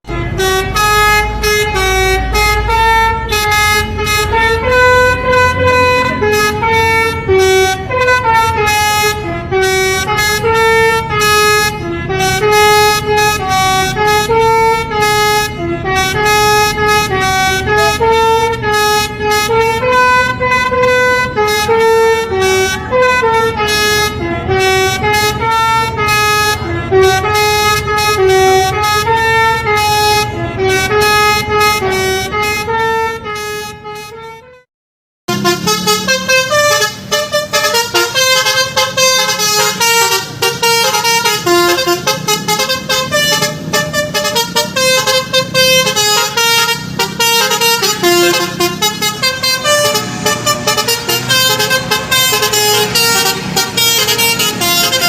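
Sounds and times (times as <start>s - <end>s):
low engine rumble: 0.0s - 34.3s, 35.3s - 55.0s
multi-tone vehicle horn tune: 0.0s - 34.7s, 35.3s - 55.0s.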